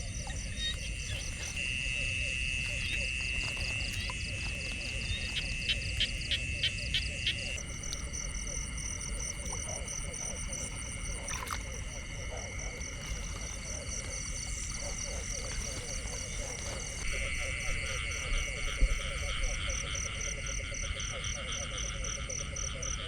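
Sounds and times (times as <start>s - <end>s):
insects trilling: 0.0s - 22.9s
frogs croaking: 0.0s - 23.0s.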